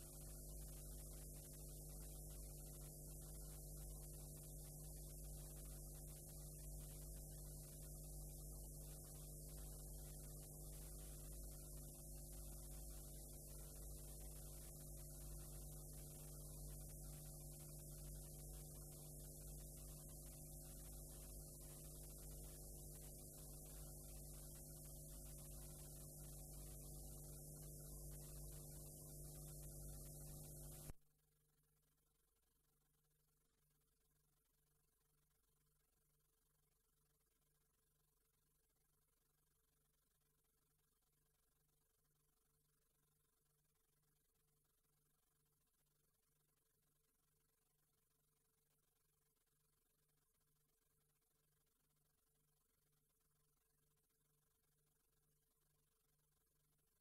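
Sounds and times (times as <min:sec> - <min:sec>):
mains hum with buzz: 0:00.0 - 0:57.0.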